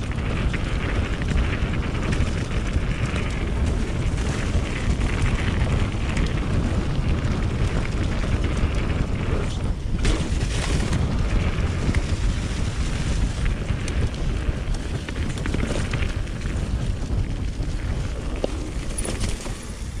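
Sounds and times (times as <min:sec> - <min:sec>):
bike tyre rumble on dirt: 0:00.0 - 0:20.0
wind buffeting microphone: 0:00.0 - 0:20.0.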